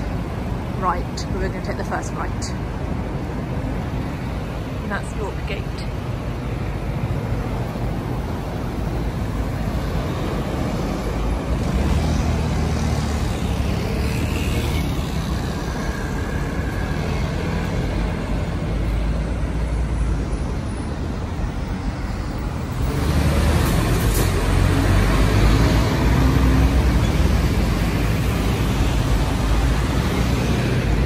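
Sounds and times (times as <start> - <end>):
bus passing: 0.0 - 31.0
road traffic rumble: 0.0 - 31.0.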